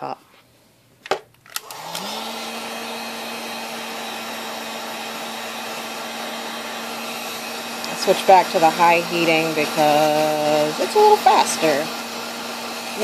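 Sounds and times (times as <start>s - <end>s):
heat gun fan blowing: 1.6s - 13.0s.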